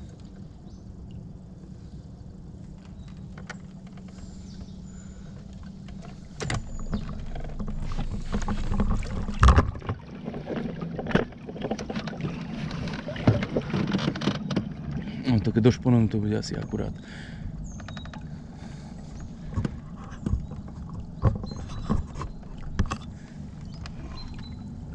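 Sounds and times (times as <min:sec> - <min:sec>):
water noise: 0:00.0 - 0:24.9.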